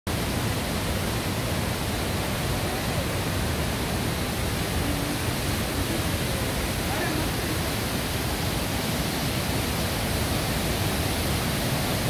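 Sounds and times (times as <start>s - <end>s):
waterfall rushing: 0.1s - 12.0s.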